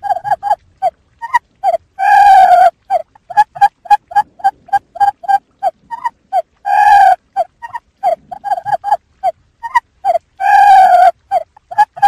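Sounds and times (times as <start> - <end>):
quail calling: 0.0 - 0.6, 1.2 - 12.0.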